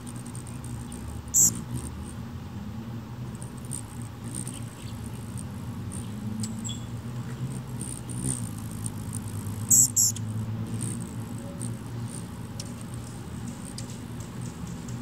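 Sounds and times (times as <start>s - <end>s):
hummingbird squeaky chips: 0.0s - 2.2s, 3.4s - 15.0s
steady low hum: 0.0s - 15.0s.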